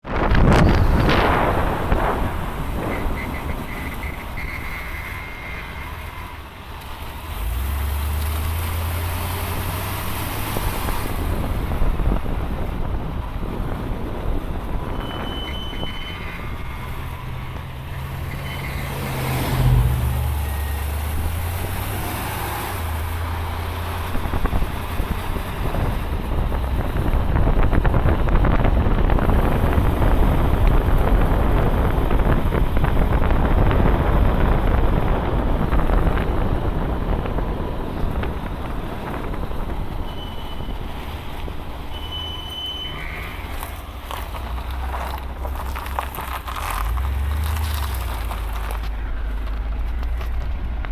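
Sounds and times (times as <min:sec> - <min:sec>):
brakes squealing: 0:00.0 - 0:50.9
car engine and road noise: 0:00.0 - 0:50.9.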